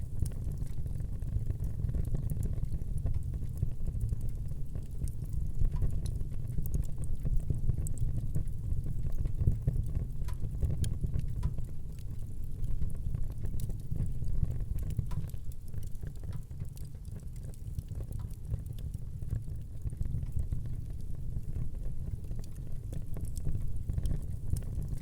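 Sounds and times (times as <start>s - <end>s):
wood fire burning: 0.0s - 25.0s.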